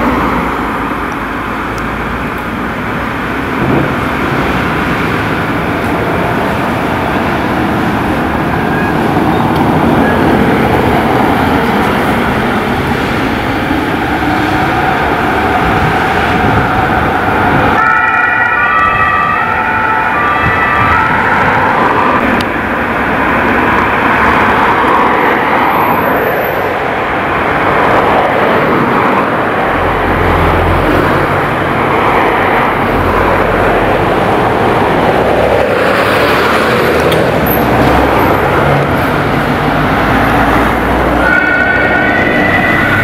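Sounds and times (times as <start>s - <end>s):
vehicles driving past: 0.0s - 43.0s.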